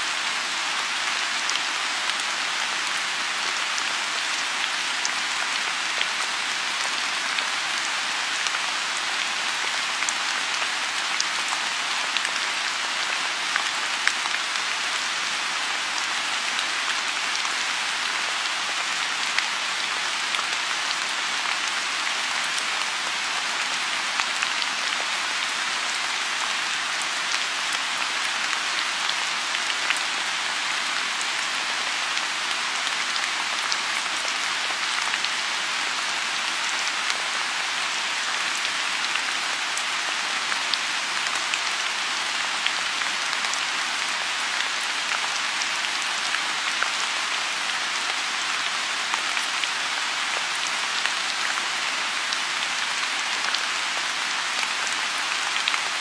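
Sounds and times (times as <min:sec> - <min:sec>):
rain falling on pond: 0:00.0 - 0:56.0.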